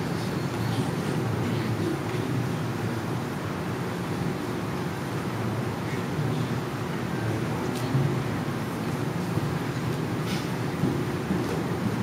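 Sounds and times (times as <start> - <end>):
low rumble of large hall: 0.0 - 12.0.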